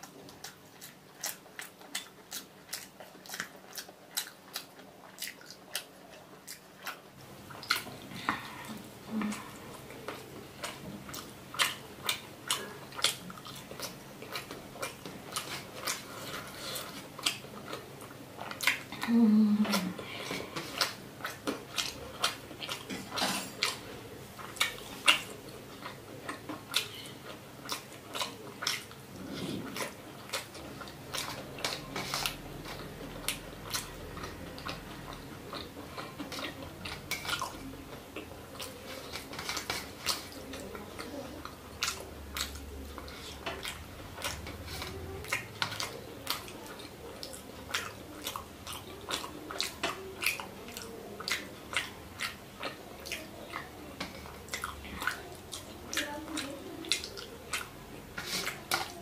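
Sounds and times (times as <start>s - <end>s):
chewing and mouth clicks: 0.0s - 59.0s.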